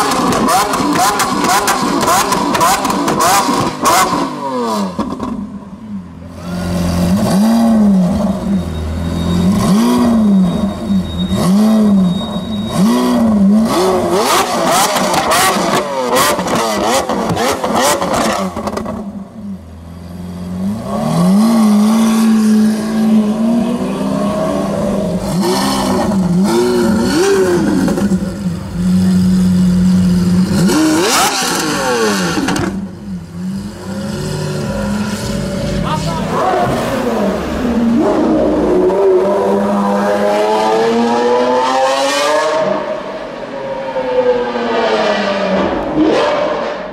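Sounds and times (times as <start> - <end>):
sports car engine revving: 0.0 - 8.5, 12.7 - 46.9.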